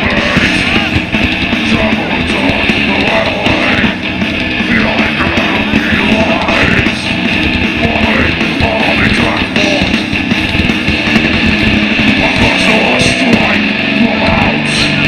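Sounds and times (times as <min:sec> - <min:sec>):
death metal band playing live: 0:00.0 - 0:15.0.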